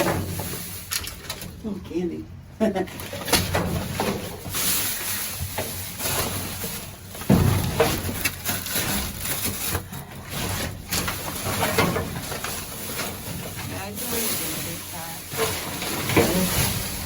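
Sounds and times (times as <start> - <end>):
plastic bags rustling: 0.0 - 1.8, 2.7 - 17.0.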